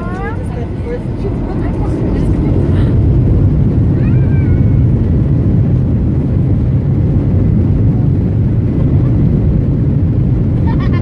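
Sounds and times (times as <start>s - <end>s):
airliner engine rumble in cabin: 0.0s - 11.0s.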